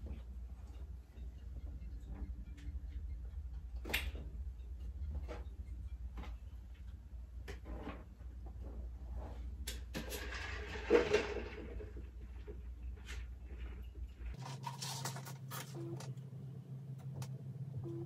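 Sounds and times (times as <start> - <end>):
steady low hum: 0.0 - 10.0, 11.4 - 18.0.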